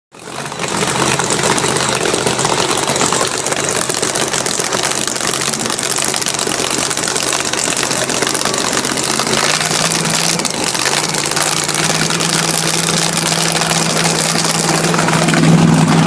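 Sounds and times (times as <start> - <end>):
car engine idling: 0.2 - 16.0.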